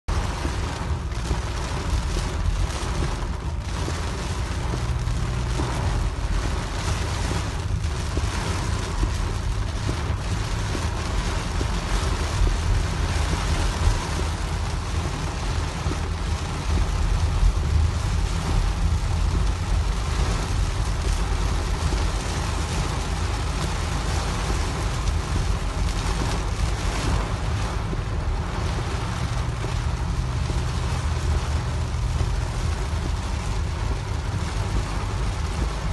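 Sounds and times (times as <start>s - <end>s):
rain hissing on car roof: 0.0s - 35.9s
deep low rumble: 0.1s - 35.9s.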